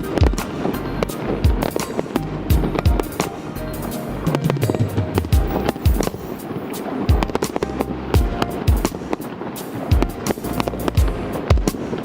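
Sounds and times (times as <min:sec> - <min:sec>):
deep firework booms: 0:00.0 - 0:12.0
fireworks cracking: 0:00.0 - 0:12.0
music playing: 0:00.0 - 0:12.0.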